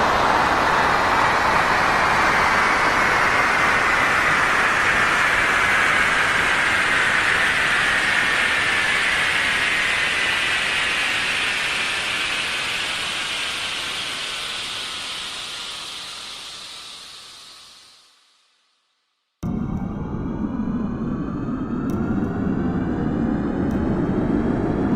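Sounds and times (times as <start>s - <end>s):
airplane engines with high whine: 0.0s - 18.0s, 19.4s - 24.9s.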